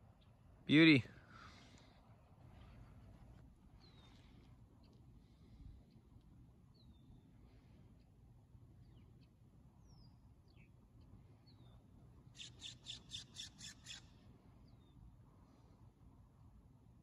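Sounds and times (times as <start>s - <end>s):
wild birds chirping: 0.0s - 16.1s.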